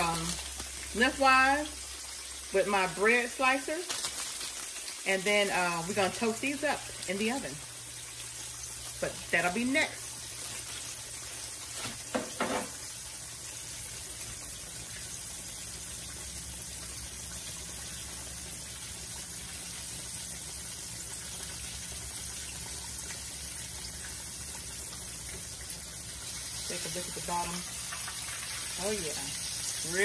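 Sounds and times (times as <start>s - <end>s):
chicken sizzling in a pan: 0.0s - 30.0s.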